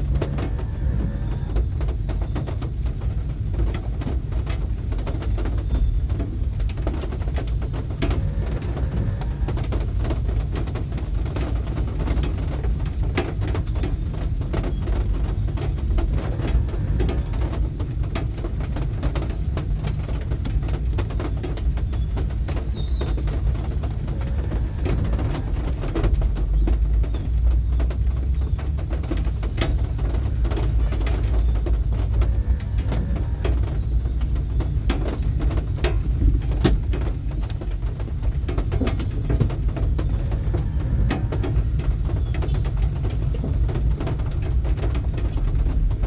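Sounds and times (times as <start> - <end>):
steady rain rumble: 0.0 - 46.0.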